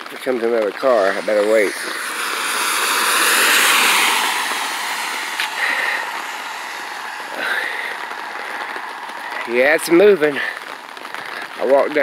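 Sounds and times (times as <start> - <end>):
car tyres hissing on wet road: 0.0 - 12.0.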